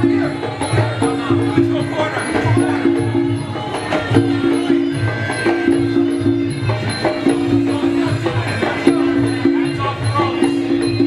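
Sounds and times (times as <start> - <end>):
wind instrument repeated notes: 0.0 - 11.0.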